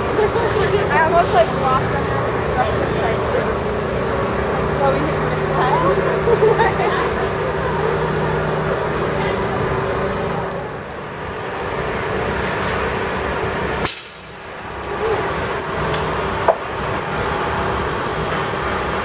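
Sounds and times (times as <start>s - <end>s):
street and construction noise: 0.0s - 19.0s
vehicle engines running: 0.0s - 19.0s.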